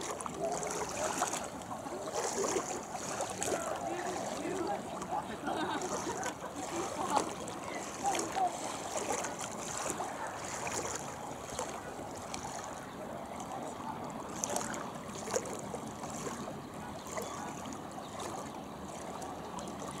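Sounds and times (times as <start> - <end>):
water wash: 0.0 - 20.0.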